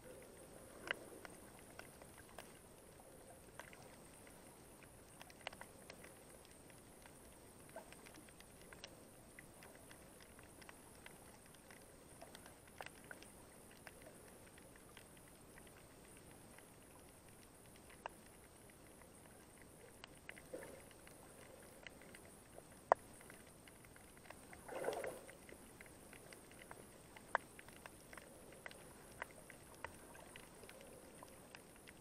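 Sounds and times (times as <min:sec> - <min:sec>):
faint underwater crackling clicks: 0:00.0 - 0:32.0.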